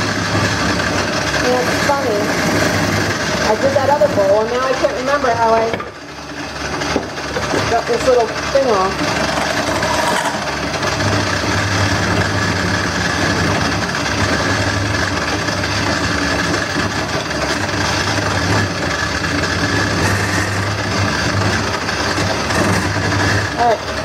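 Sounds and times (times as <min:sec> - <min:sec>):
wood lathe running: 0:00.0 - 0:24.0.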